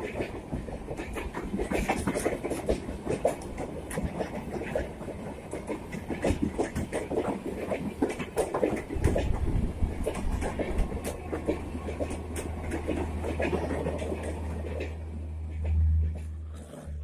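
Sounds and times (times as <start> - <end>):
wheels clattering over rail joints: 0.0 - 16.8
train low rumble: 0.0 - 17.0.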